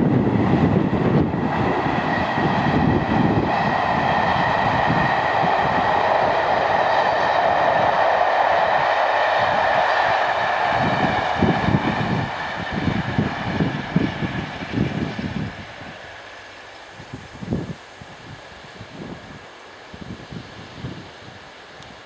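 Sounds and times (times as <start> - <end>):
diesel locomotive engine whine: 0.0 - 22.0
train rumble: 0.0 - 22.0.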